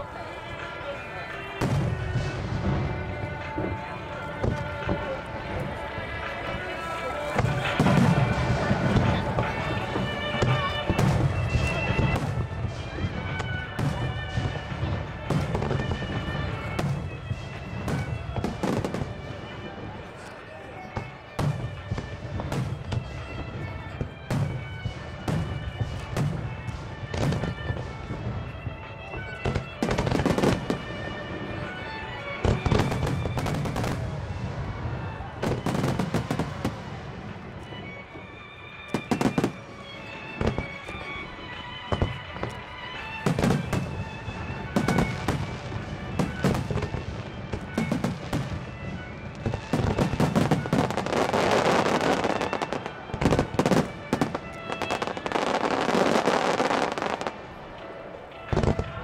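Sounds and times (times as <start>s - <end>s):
fireworks bursting: 0.0s - 59.0s
fireworks crackling: 0.0s - 59.0s
music playing: 0.0s - 59.0s.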